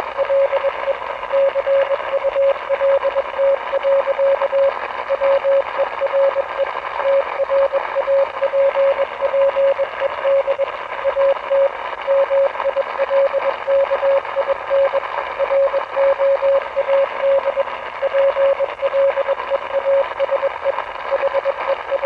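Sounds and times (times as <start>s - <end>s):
radio static hiss: 0.0s - 22.0s
morse code beeps: 0.2s - 22.0s.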